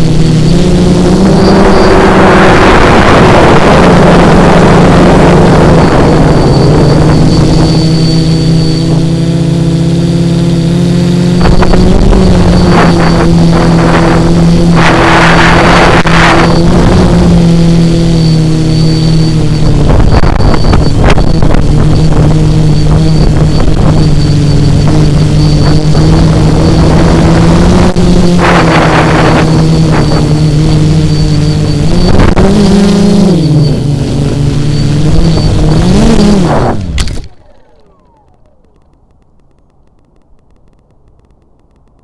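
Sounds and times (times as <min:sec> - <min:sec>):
wind rushing over microphone: 0:00.0 - 0:37.0
drone motors and propellers droning: 0:00.0 - 0:42.0.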